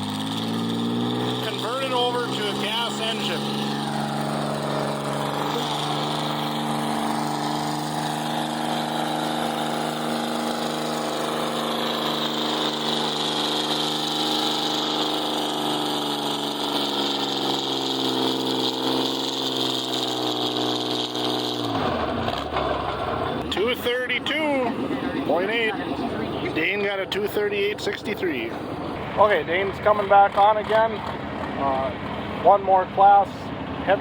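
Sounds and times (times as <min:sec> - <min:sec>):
tractor engine running hard: 0:00.0 - 0:34.0.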